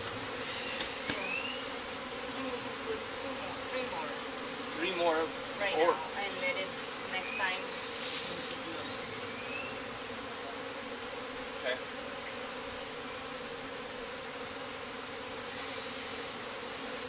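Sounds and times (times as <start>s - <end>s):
bee flying close by: 0.0s - 17.0s
bees buzzing: 0.0s - 17.0s.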